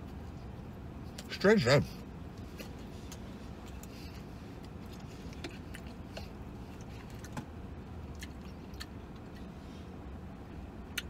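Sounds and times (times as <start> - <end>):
vehicle cabin hum: 0.0 - 11.0
man chewing food: 2.0 - 11.0.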